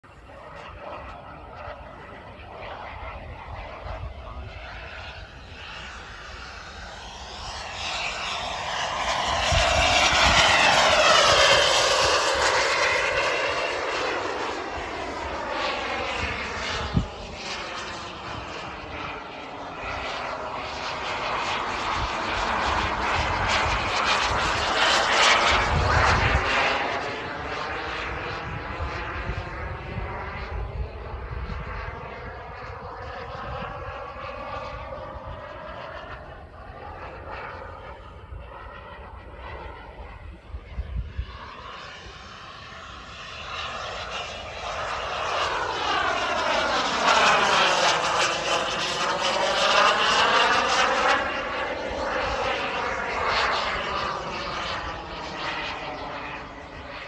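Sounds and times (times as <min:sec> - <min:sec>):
model jet turbine whoosh: 0:00.2 - 0:57.0.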